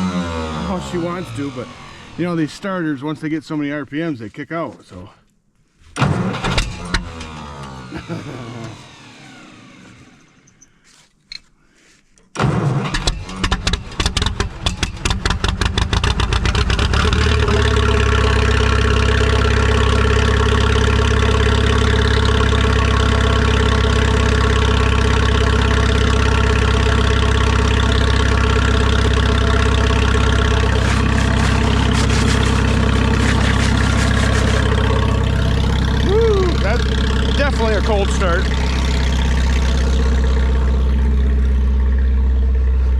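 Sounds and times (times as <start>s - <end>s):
tractor engine starting and idling: 0.0s - 3.0s, 5.9s - 10.7s, 12.3s - 42.9s.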